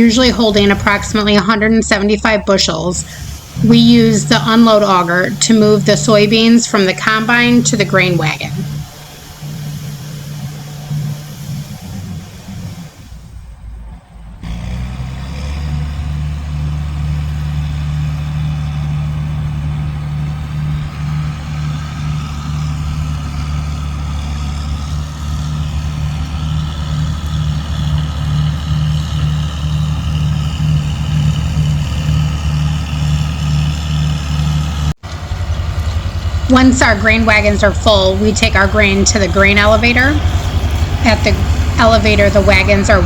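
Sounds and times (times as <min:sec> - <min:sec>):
high whine: 0:00.0 - 0:14.6, 0:16.0 - 0:43.0
diesel engine low drone: 0:00.0 - 0:43.0.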